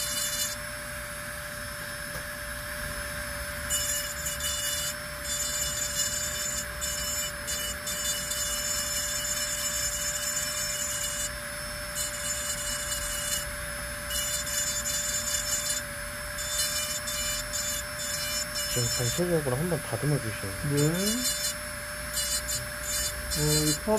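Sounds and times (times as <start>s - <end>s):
dental handpiece whining and grinding: 0.0s - 23.9s.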